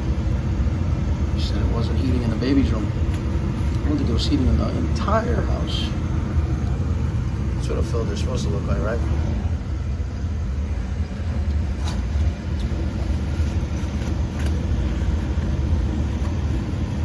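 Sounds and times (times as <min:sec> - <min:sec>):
furnace blower rumble: 0:00.0 - 0:17.0.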